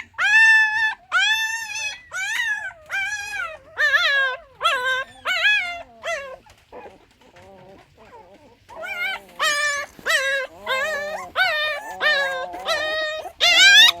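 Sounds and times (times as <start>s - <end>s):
puppies crying and whimpering: 0.0s - 14.0s.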